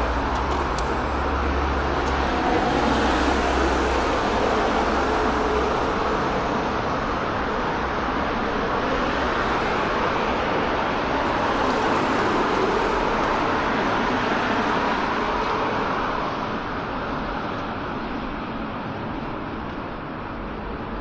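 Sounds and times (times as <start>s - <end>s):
road traffic rushing: 0.0s - 19.6s.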